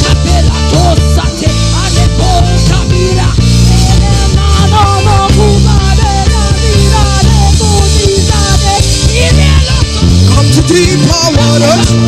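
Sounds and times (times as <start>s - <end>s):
band playing slow groove: 0.0s - 12.0s
sliding lead melody: 0.0s - 12.0s.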